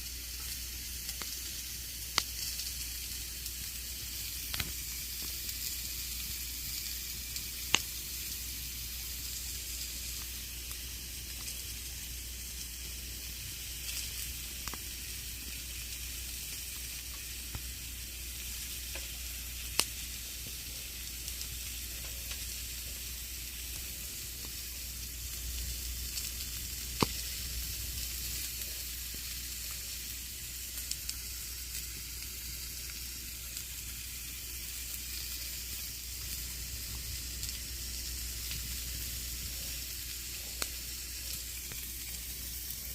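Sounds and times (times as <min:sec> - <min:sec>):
campfire crackling and hissing: 0:00.0 - 0:42.9
burning wood popping: 0:00.3 - 0:42.9.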